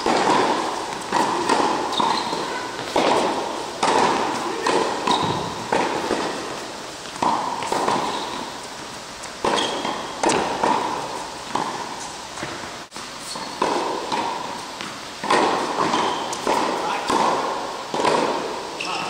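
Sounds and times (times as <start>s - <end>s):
rackets hitting tennis ball: 0.0s - 19.0s
tennis ball bouncing on court: 0.0s - 19.0s.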